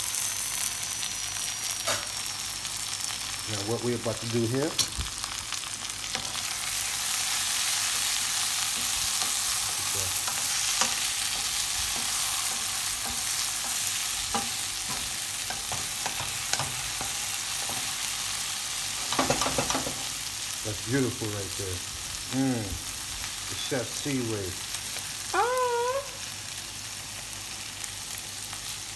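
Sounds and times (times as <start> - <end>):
vegetables sizzling in a pan: 0.0 - 28.9.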